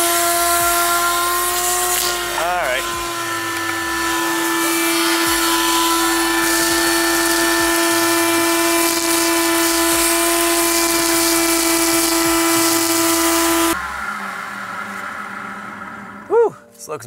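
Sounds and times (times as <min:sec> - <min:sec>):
electric motor whine: 0:00.0 - 0:16.4.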